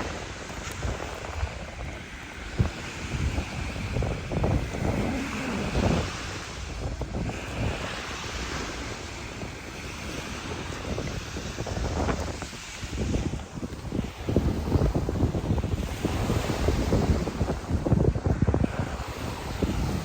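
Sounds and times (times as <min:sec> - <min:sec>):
ocean surf: 0:00.0 - 0:20.0
wind buffeting microphone: 0:00.0 - 0:20.0.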